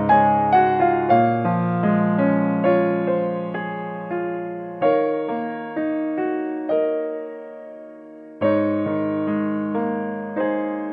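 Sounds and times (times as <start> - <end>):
gentle piano music: 0.0 - 10.9.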